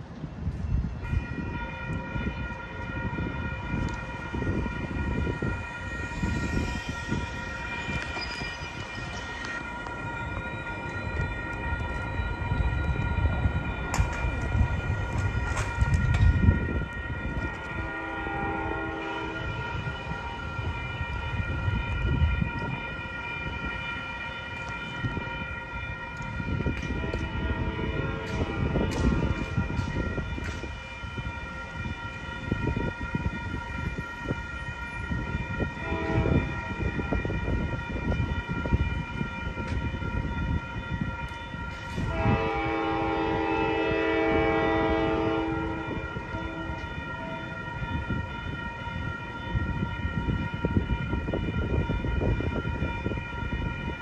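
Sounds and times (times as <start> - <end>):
railroad crossing bells ringing: 0.0 - 54.0.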